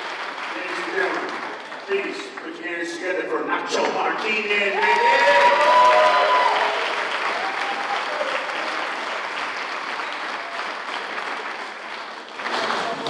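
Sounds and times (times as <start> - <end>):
audience applauding: 0.0 - 2.9, 4.2 - 13.0.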